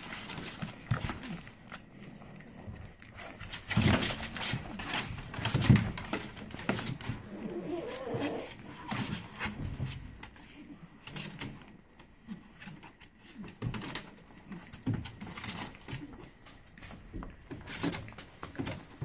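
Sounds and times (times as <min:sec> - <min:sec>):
puppies grunting: 0:00.0 - 0:19.0.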